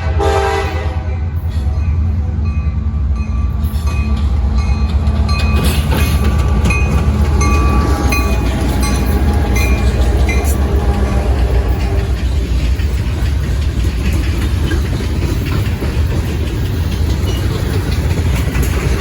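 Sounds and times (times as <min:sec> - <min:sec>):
train rumbling past: 0:00.0 - 0:19.0
wheels squeaking: 0:03.6 - 0:19.0.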